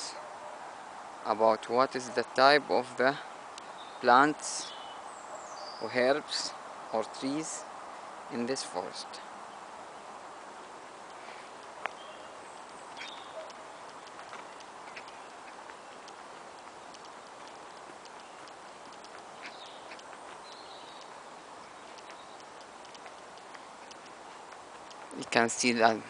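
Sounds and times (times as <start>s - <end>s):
birds chirping: 0.0s - 26.0s
light footsteps on woodland path: 0.0s - 26.0s
steady outdoor hush: 0.0s - 26.0s.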